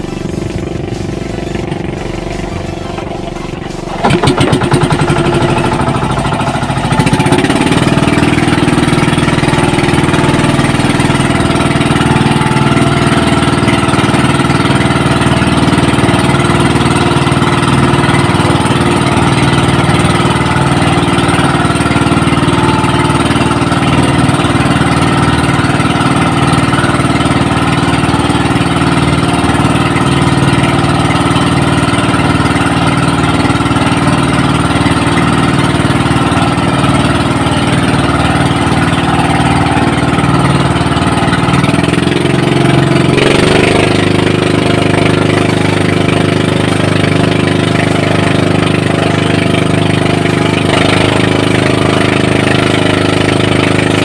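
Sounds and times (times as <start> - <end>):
small boat engine running: 0.0 - 54.0.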